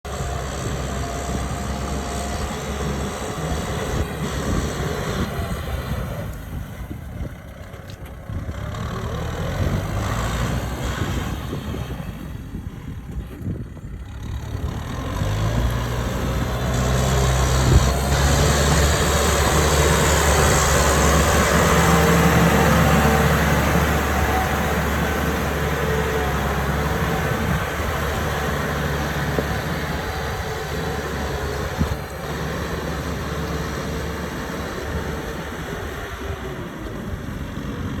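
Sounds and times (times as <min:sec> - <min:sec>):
tractor engine droning: 0:00.0 - 0:38.0.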